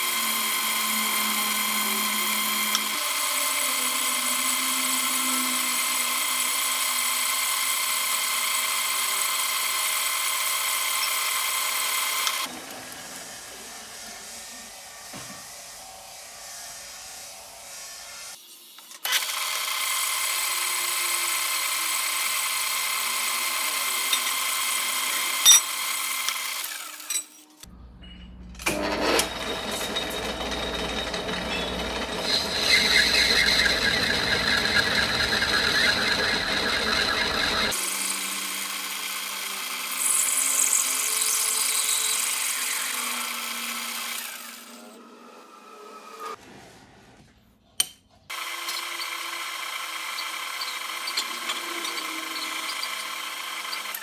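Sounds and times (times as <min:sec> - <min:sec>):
metal lathe motor and gear whine: 0:00.0 - 0:18.4, 0:19.1 - 0:27.2, 0:28.6 - 0:46.4, 0:48.3 - 0:54.0.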